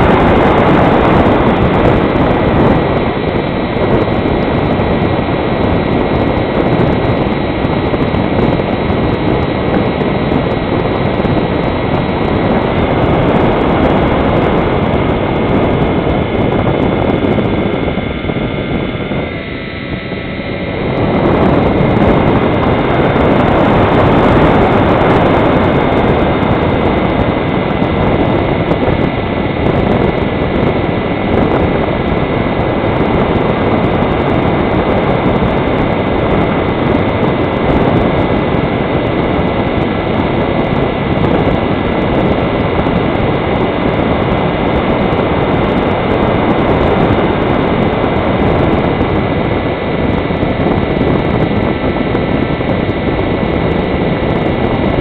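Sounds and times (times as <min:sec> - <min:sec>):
model plane motor whine: 0:00.0 - 0:55.0
wind rushing: 0:00.0 - 0:55.0.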